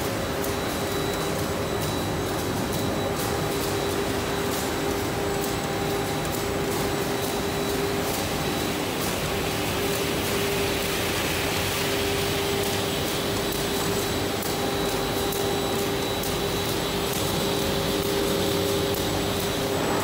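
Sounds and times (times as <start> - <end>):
constant hum tone: 0.0 - 20.0.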